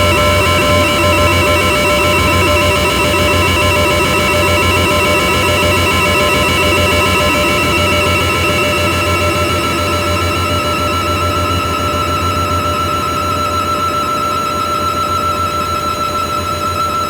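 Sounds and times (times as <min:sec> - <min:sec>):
dark synthesizer drone: 0:00.0 - 0:17.0.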